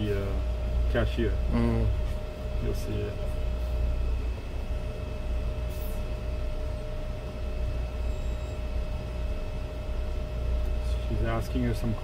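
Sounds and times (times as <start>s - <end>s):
low machinery hum: 0.0s - 12.0s
thin steady whine: 0.0s - 12.0s.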